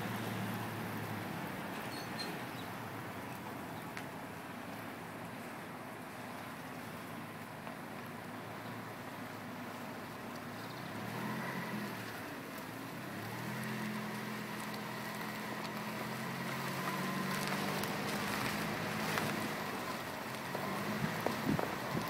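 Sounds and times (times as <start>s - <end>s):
engine hum: 0.0s - 22.0s.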